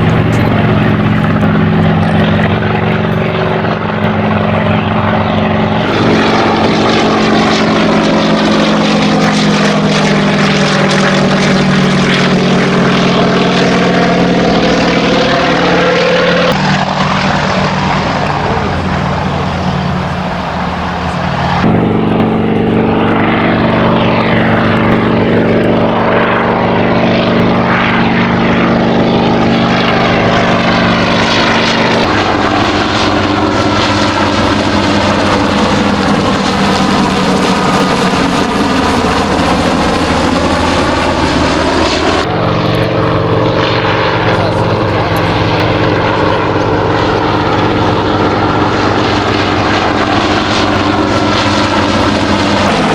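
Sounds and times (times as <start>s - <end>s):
helicopter engine and rotor drone: 0.0s - 52.9s.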